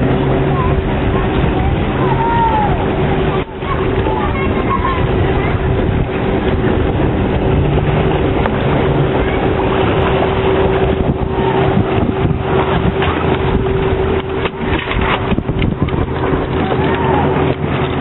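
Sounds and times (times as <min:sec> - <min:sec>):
steady hum: 0:00.0 - 0:18.0
water rushing along hull: 0:00.0 - 0:18.0
wind buffeting microphone: 0:00.0 - 0:18.0.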